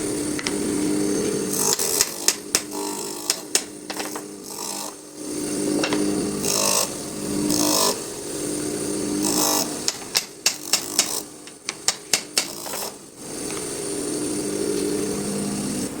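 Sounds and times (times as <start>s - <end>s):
bench grinder humming: 0.0s - 16.0s
wood rasping on sanding wheel: 0.4s - 16.0s.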